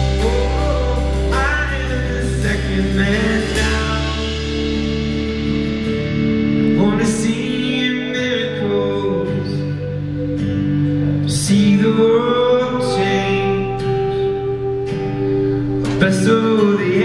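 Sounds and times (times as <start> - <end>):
electric guitar chords: 0.0 - 17.0
person singing: 0.0 - 17.0.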